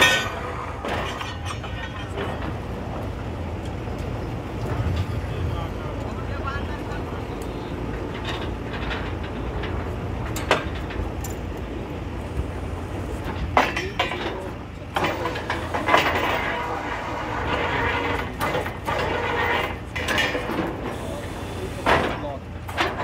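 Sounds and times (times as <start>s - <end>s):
drilling rig rumbling: 0.0s - 23.0s.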